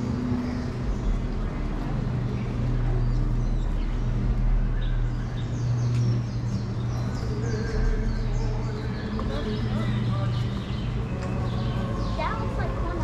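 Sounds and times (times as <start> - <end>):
low hum of traffic: 0.0 - 13.0
small birds chirping: 0.0 - 13.0.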